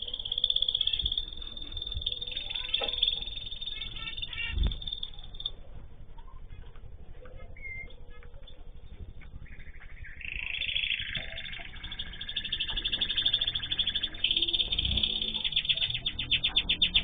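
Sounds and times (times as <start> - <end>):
songbirds trilling: 0.0 - 17.0.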